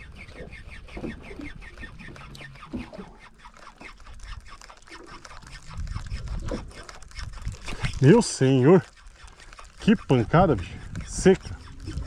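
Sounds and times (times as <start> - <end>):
spinning reel cranking ticks: 0.0 - 12.0.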